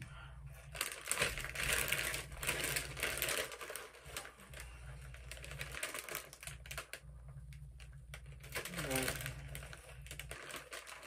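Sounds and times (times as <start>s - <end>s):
chip bag crinkling: 0.7s - 11.0s.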